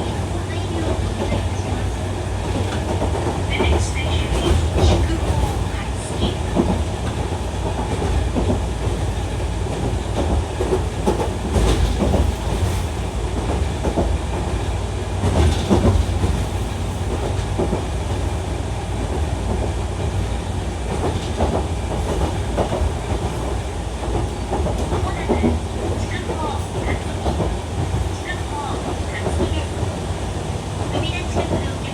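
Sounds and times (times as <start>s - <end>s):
electric train rumbling: 0.0s - 31.9s.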